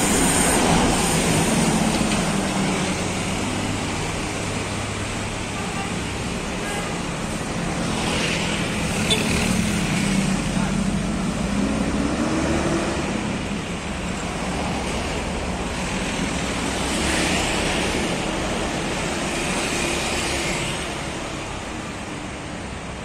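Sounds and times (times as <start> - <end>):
traffic passing: 0.0 - 23.0.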